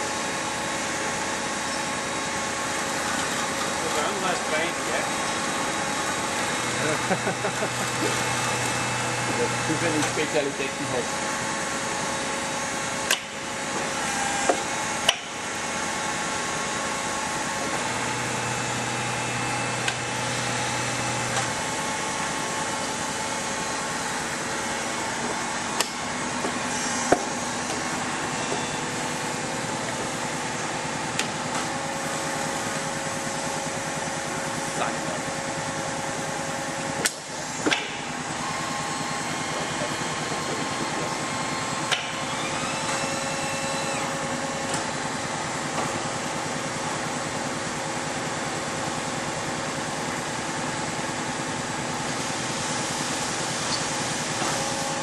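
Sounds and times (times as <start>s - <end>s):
milling machine hum: 0.0s - 55.0s.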